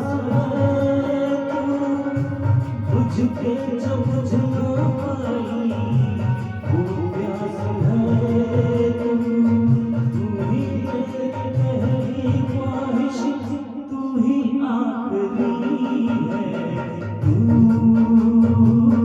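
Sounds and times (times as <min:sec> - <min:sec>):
backing music with percussion: 0:00.0 - 0:13.6, 0:15.8 - 0:19.0
person singing: 0:00.0 - 0:19.0.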